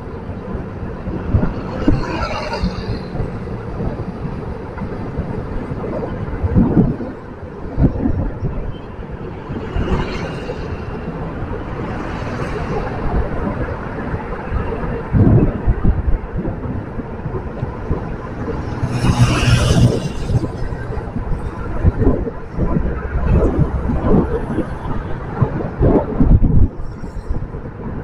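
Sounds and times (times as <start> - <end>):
road traffic noise: 0.0 - 28.0
wind buffeting microphone: 0.0 - 28.0.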